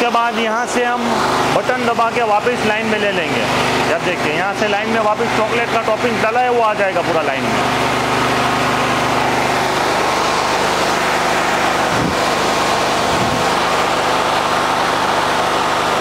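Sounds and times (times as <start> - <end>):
portable generator engine running: 0.0 - 16.0.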